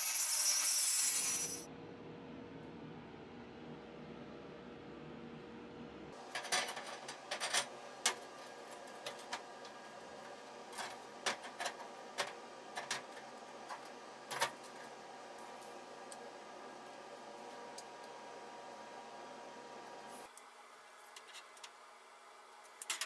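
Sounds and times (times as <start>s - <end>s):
faint steady hum: 1.6s - 23.0s.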